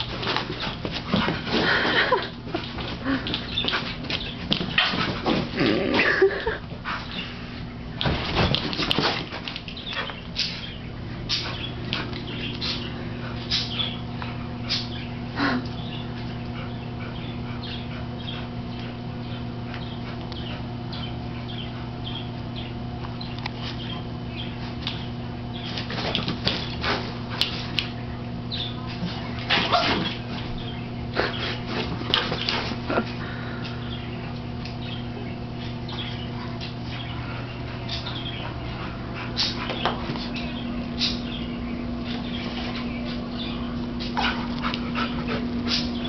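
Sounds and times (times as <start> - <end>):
dogs scuffling and clicking: 0.0 - 46.0
steady low hum: 0.0 - 46.0.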